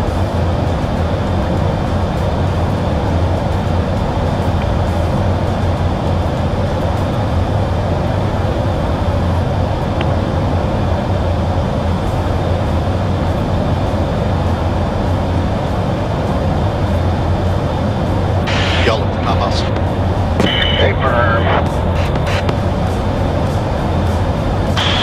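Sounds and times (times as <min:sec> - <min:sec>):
jet engine drone inside aircraft: 0:00.0 - 0:25.0.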